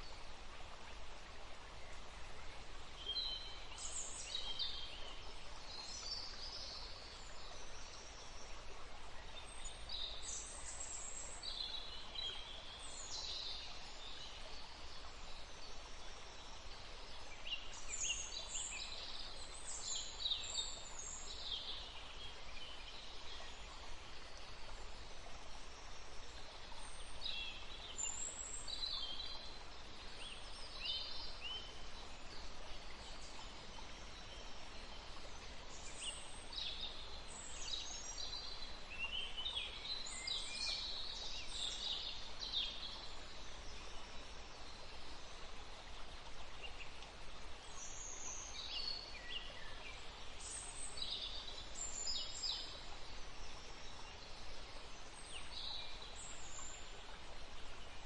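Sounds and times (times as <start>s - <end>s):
stream running: 0.0s - 58.0s.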